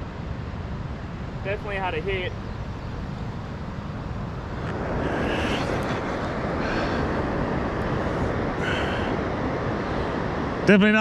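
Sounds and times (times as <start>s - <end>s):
wind on microphone: 1.2s - 11.0s.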